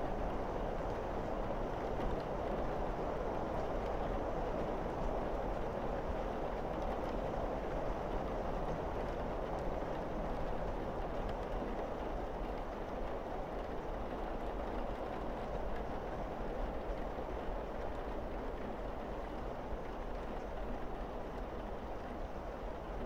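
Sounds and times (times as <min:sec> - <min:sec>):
heavy rain on roof and windows: 0:00.0 - 0:23.0.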